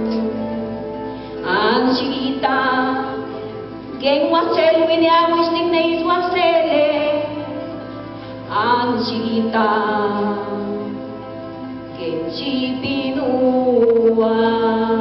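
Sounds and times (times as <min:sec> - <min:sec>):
woman singing with vibrato: 0:00.0 - 0:07.8, 0:08.4 - 0:11.3, 0:11.9 - 0:15.0.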